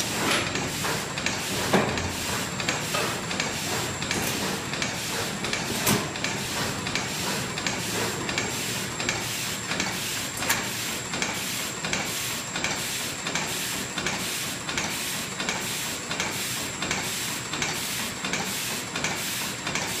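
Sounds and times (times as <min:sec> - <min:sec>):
sharp machine knock: 0:00.0 - 0:20.0
machine mechanical chatter: 0:00.1 - 0:19.9.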